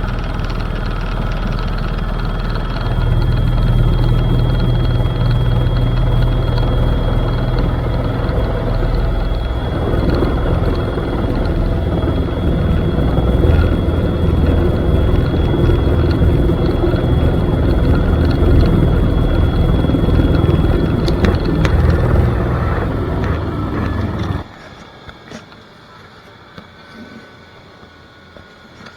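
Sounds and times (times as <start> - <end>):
helicopter engine and rotor rumble: 0.0 - 24.5
high whine: 0.0 - 25.1.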